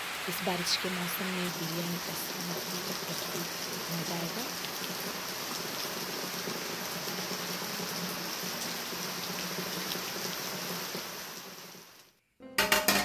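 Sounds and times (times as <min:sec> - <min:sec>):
rain on foliage: 0:00.0 - 0:12.2.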